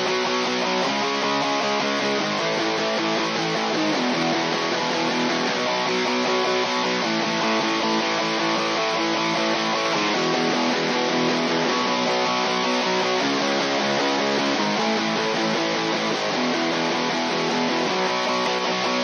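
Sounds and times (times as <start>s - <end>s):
strummed electric guitar: 0.0s - 19.0s.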